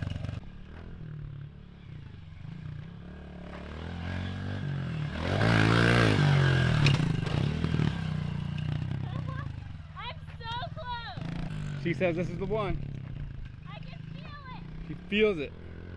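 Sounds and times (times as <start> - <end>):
pit bike engine revving: 1.6 - 9.9, 10.8 - 15.9.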